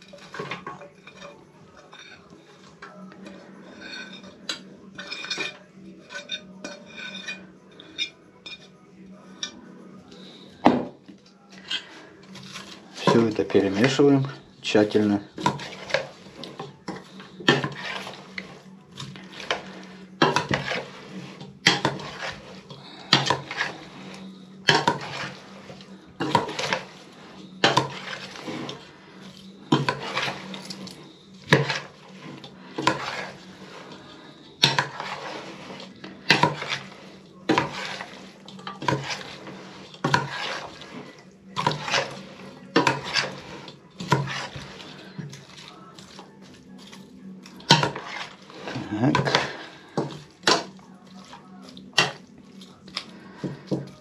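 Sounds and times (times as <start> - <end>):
spoons knocking and scraping a pot: 0.0 - 8.7, 9.4 - 54.0.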